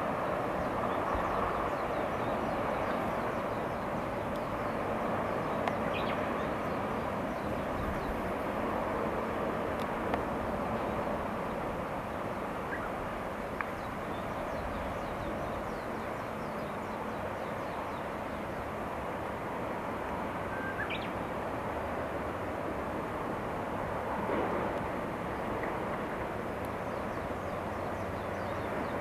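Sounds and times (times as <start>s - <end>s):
distant diesel locomotive rumble: 0.0s - 29.0s.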